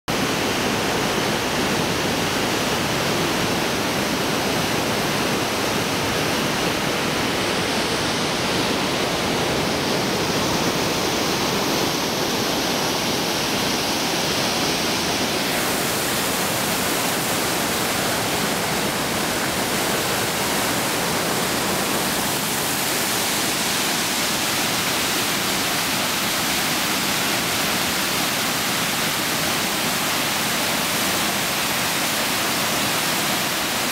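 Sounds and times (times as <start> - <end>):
whitewater rushing through canyon: 0.1 - 33.9.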